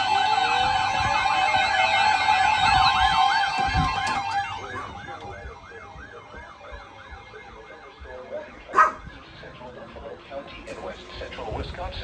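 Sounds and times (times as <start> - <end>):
emergency siren yelp: 0.0 - 10.2.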